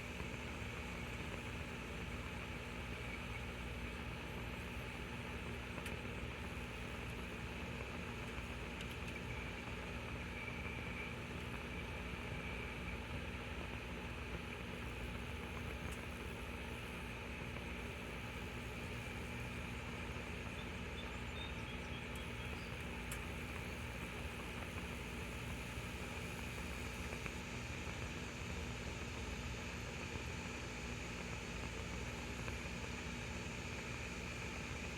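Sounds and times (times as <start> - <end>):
stove burning with hiss: 0.0 - 34.9.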